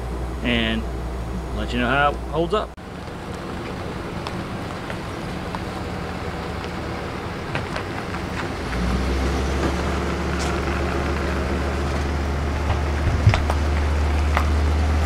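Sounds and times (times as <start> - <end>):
deep engine hum: 0.0 - 15.0
vehicle noise: 0.0 - 15.0.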